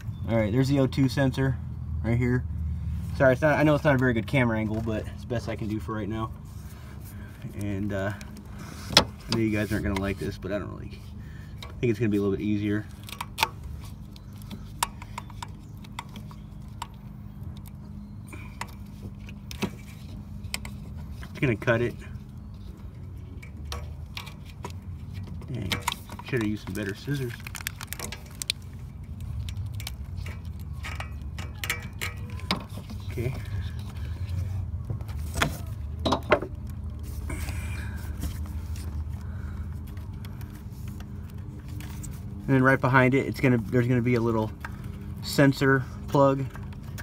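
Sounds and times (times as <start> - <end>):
low steady hum: 0.0 - 47.0
hands handling wiring harness: 3.1 - 47.0.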